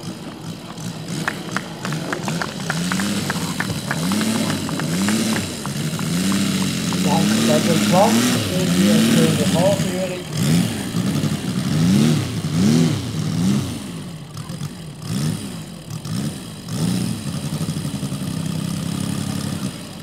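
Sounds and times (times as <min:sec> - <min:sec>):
model plane engine revving and idling: 0:00.0 - 0:20.0.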